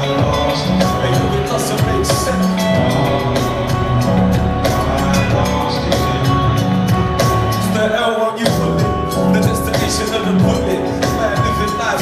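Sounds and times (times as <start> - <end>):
bass line: 0.0 - 12.0
drums with cymbal hits: 0.0 - 12.0
live band playing: 0.0 - 12.0.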